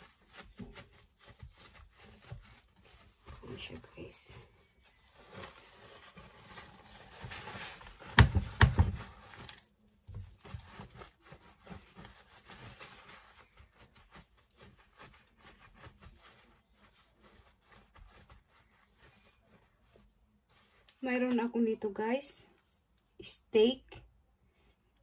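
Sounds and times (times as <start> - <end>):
paper towel rustling: 0.0 - 21.3.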